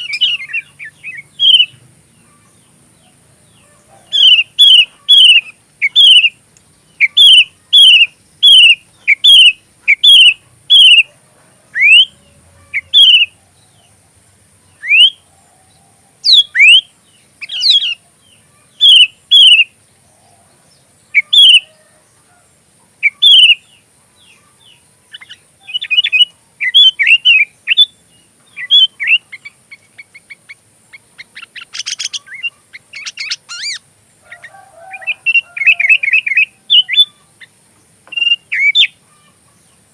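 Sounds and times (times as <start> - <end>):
bulbul singing whistles: 0.0 - 11.1, 11.8 - 13.9, 14.6 - 20.4, 21.0 - 21.8, 23.0 - 39.8.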